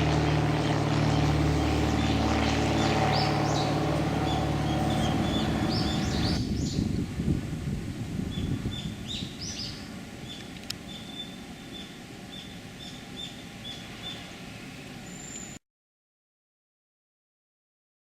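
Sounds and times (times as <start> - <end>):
low background rush: 0.0 - 15.3.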